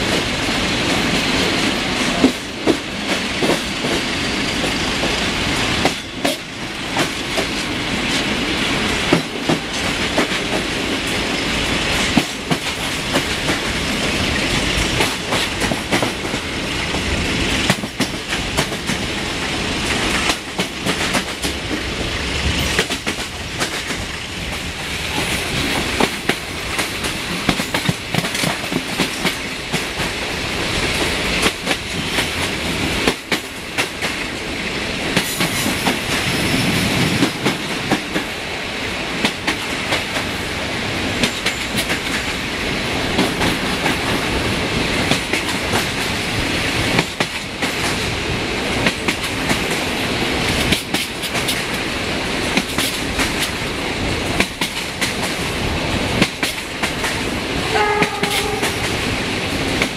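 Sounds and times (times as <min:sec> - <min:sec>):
train running noise: 0:00.0 - 0:59.9
wheels clicking over rail joints: 0:00.0 - 0:59.9.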